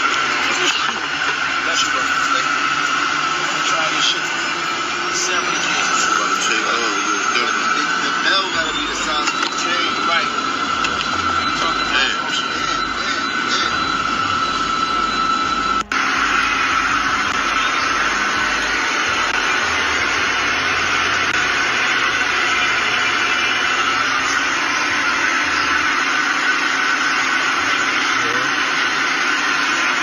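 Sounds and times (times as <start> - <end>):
jet cabin rushing noise: 0.0 - 28.7
faint steady whine: 0.0 - 30.0.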